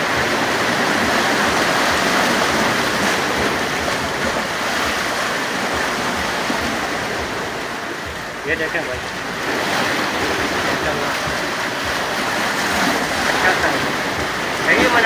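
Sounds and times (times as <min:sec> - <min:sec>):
seawater rushing: 0:00.0 - 0:15.0.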